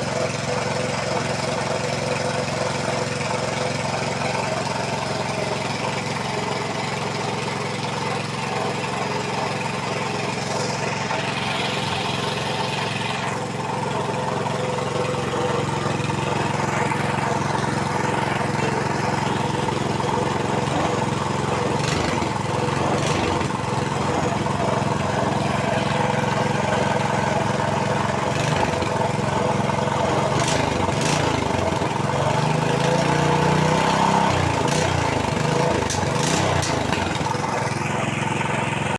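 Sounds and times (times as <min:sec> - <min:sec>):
pump engine idling: 0:00.0 - 0:38.9.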